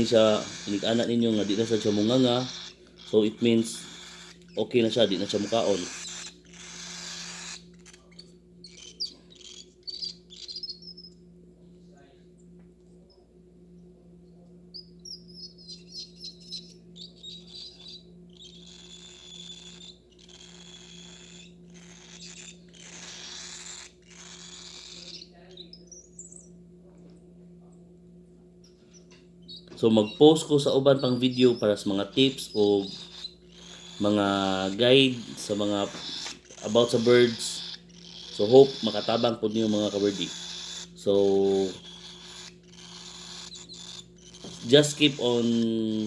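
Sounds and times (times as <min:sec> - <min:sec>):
cockatiel chirping: 0:00.0 - 0:11.2, 0:14.7 - 0:26.6, 0:28.6 - 0:46.0
low hum: 0:00.0 - 0:46.0.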